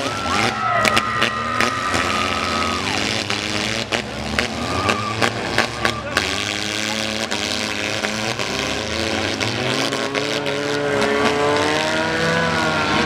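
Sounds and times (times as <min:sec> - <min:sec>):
car engines revving hard: 0:00.0 - 0:13.0
cars knocking together: 0:00.0 - 0:13.0.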